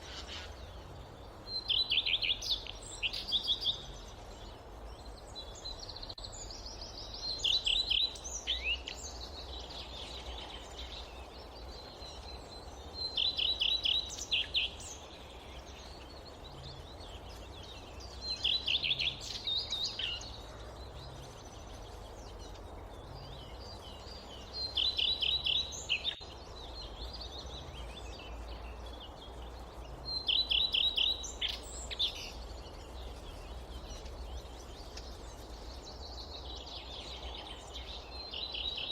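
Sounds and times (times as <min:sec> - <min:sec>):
forest ambience: 0:00.0 - 0:38.9
songbird singing: 0:00.0 - 0:38.9.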